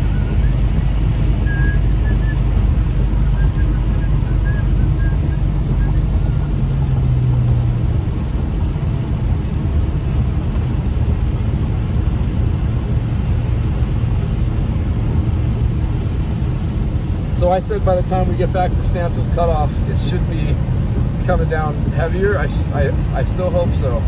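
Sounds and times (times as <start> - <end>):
car engine running: 0.0 - 24.0
tyres on wet pavement: 0.0 - 24.0.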